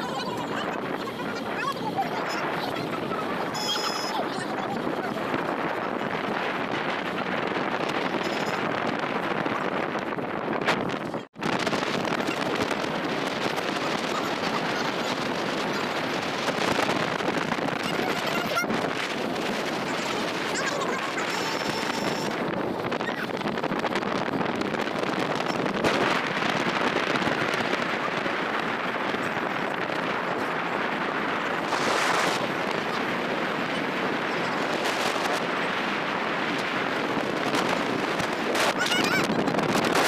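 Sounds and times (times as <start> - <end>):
vehicle running and road noise: 0.0 - 40.0
wind buffeting microphone: 0.0 - 40.0.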